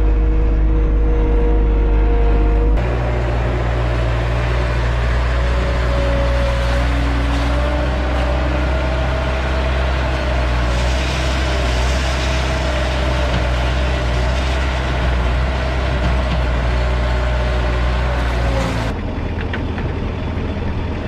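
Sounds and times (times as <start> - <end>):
diesel engine running: 0.0 - 21.0
steady engine whine: 0.0 - 21.0.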